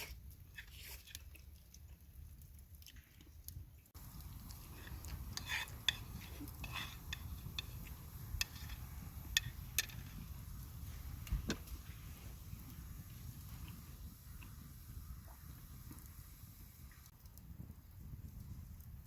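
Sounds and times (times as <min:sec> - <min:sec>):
low steady rumble: 0:03.6 - 0:19.0.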